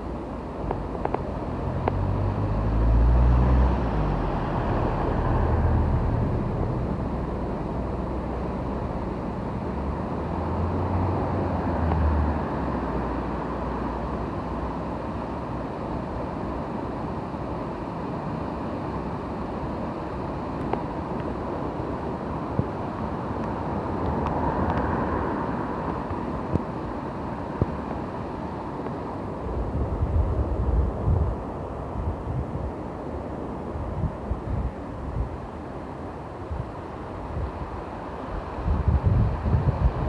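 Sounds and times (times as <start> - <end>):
torrent water roaring: 0.0 - 40.0.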